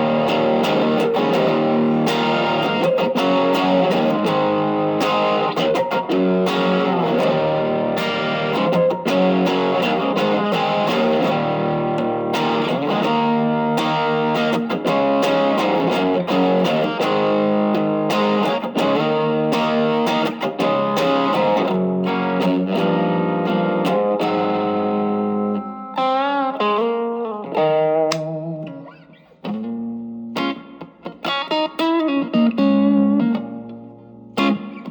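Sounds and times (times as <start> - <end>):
lightly distorted electric guitar: 0.0 - 34.9.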